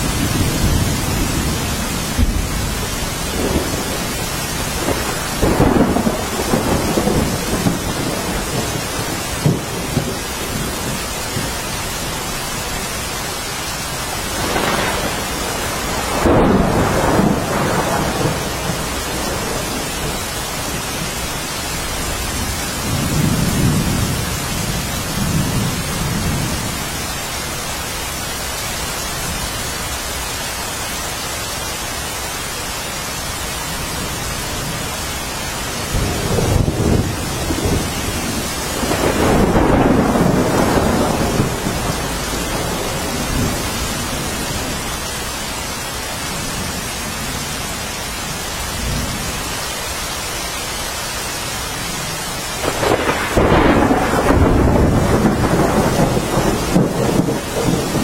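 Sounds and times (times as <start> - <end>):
thunder rumbling: 0.0 - 27.1, 33.9 - 49.5, 52.6 - 58.0
steady rain falling: 0.0 - 58.0.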